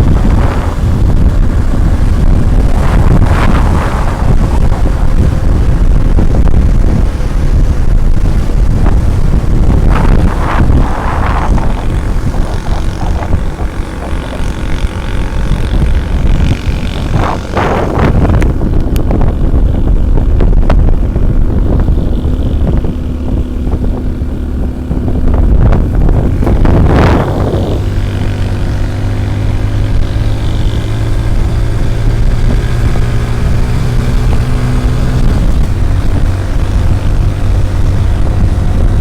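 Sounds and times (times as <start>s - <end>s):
motorcycle engine cruising: 0.0s - 39.0s
rush of noise: 0.0s - 39.0s
wind buffeting microphone: 0.0s - 39.0s.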